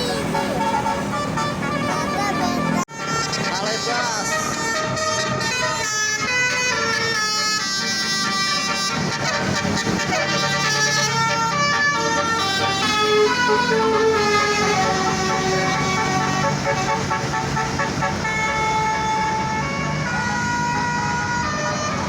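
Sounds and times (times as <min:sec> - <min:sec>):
melody horn playing a tune: 0:00.0 - 0:22.0.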